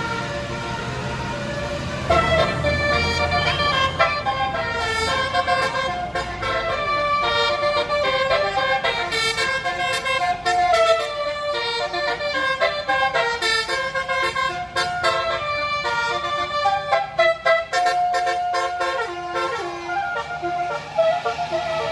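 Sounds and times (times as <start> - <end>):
musical air horn playing a tune: 2.1 - 21.9.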